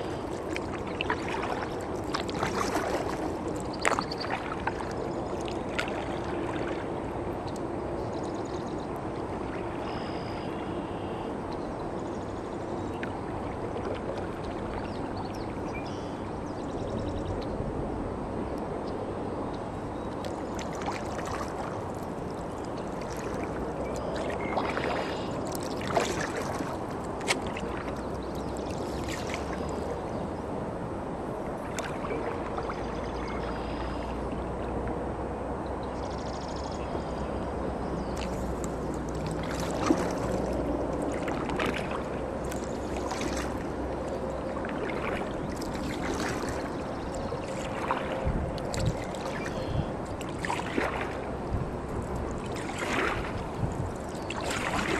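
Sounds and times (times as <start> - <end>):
paddle strokes in water: 0.0 - 17.4, 19.5 - 35.2, 36.0 - 54.9
water trickling along hull: 0.0 - 54.9.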